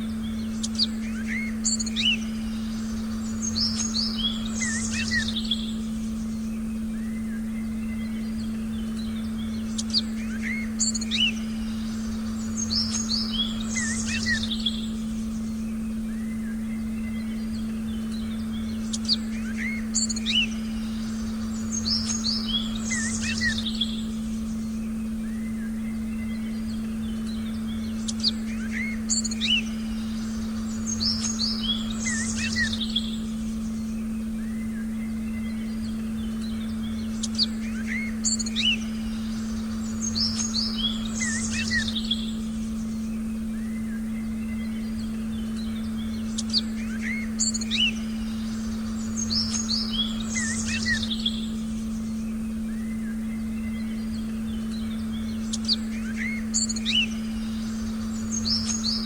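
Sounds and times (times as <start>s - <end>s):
birds chirping high notes: 0.0s - 59.0s
faint low forest rumble: 0.0s - 59.0s
low humming tone: 0.0s - 59.0s.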